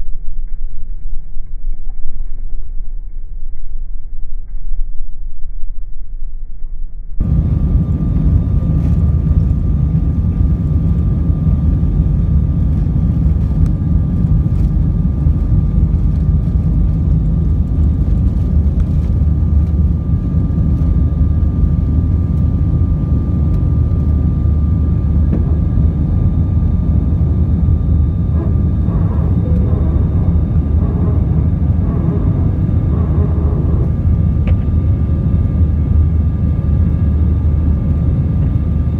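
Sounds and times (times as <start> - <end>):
high engine whine: 0.0 - 38.9
jet engines rumbling: 7.2 - 38.9.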